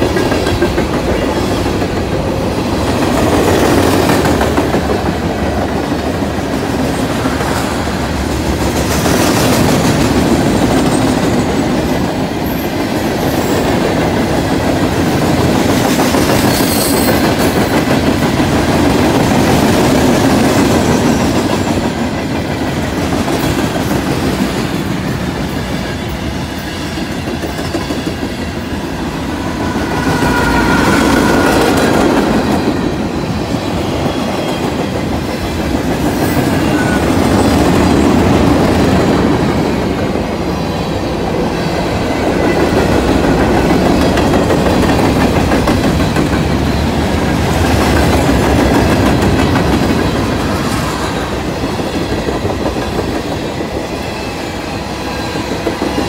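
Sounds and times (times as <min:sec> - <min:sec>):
diesel locomotive passing: 0:00.0 - 0:56.0
freight train cars rolling past: 0:00.0 - 0:56.0.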